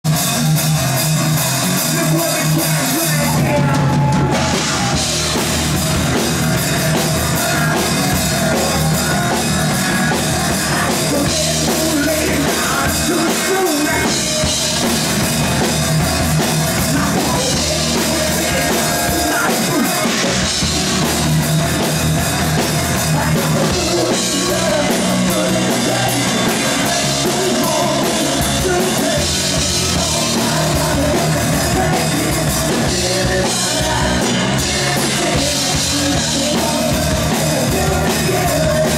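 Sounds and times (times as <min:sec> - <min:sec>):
bass guitar: 0:00.0 - 0:38.9
distorted electric guitar: 0:00.0 - 0:38.9
drum kit: 0:00.0 - 0:38.9
person singing lead vocals: 0:01.6 - 0:38.9.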